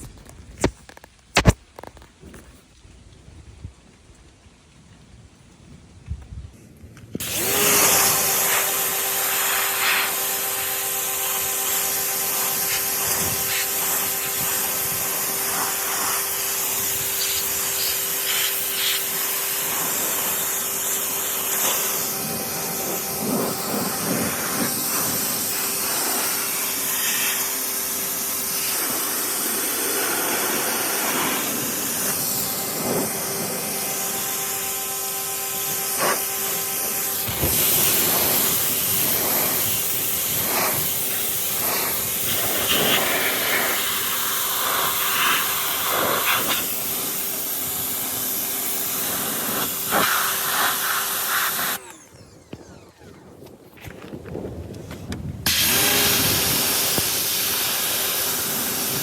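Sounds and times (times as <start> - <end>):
pressure washer whine: 7.1 - 59.0
water jet hissing on metal: 7.2 - 51.8, 55.5 - 59.0.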